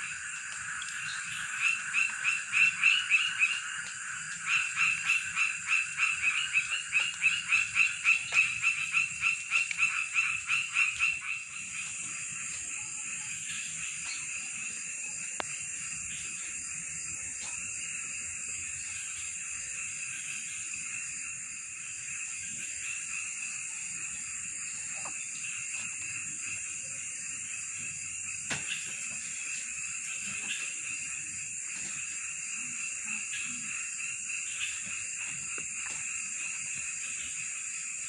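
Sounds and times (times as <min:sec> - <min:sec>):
insects and frogs trilling: 0:00.0 - 0:38.0.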